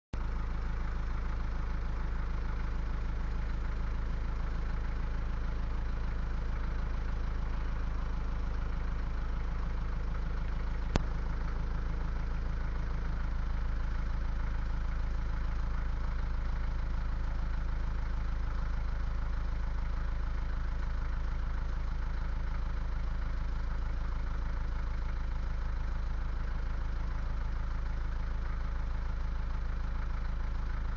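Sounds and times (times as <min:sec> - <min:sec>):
engine running low hum: 0:00.2 - 0:30.9.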